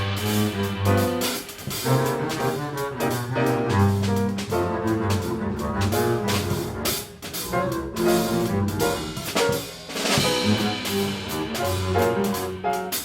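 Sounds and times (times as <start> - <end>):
double bass: 0.0 - 13.0
drum kit with cymbals: 0.0 - 13.0
live jazz combo: 0.0 - 13.0.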